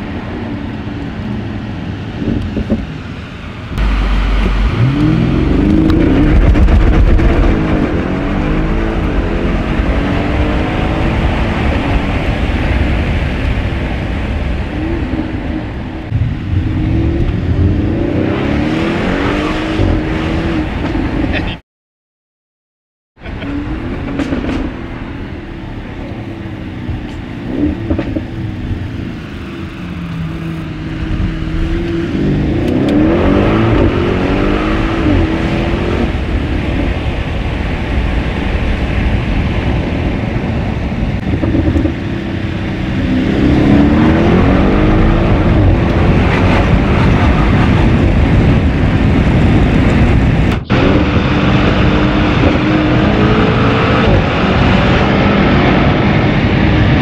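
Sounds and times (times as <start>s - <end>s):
car engine accelerating through gears: 3.8s - 13.6s, 14.6s - 21.5s, 23.2s - 37.2s, 41.1s - 57.0s.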